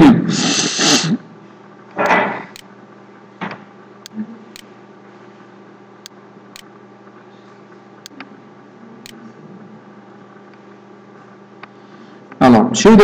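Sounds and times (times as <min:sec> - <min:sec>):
steady low hum and hiss: 0:00.0 - 0:13.0.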